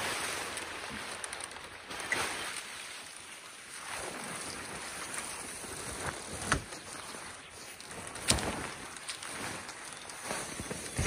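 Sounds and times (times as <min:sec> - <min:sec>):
tent fabric rustling: 0:00.0 - 0:11.0.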